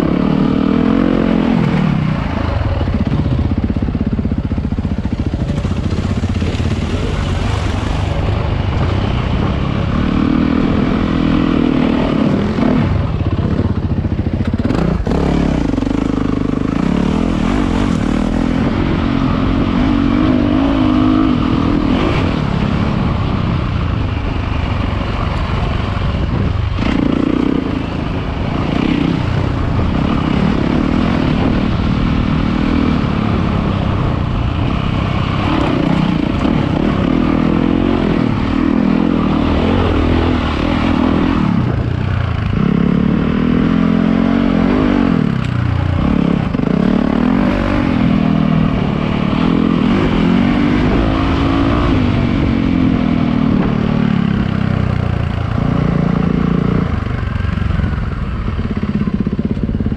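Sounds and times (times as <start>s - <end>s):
dirt bike engine revving: 0.0s - 59.8s.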